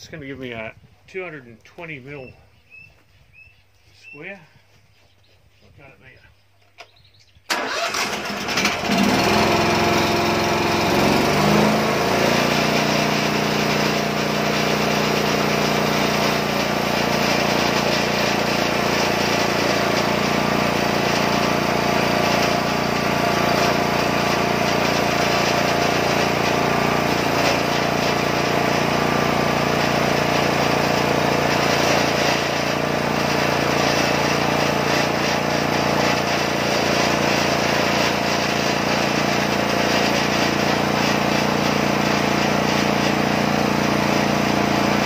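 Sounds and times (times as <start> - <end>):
sawmill engine running: 7.5 - 45.0.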